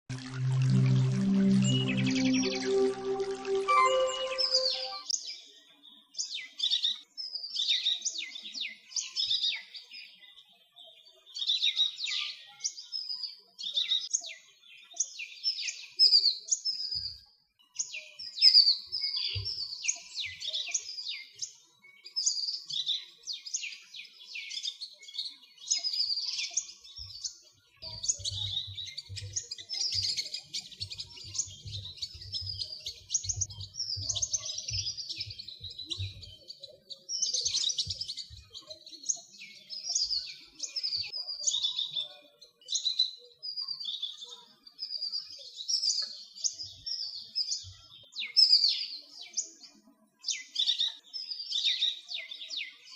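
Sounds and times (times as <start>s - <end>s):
songbirds chirping: 5.9s - 52.9s.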